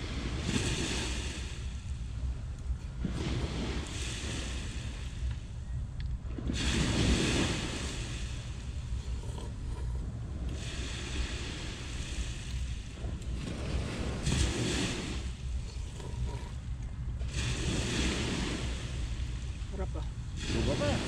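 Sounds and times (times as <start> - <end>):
sea surf washing up beach: 0.0 - 5.6, 6.2 - 21.0
wind rumble on microphone: 0.0 - 21.0.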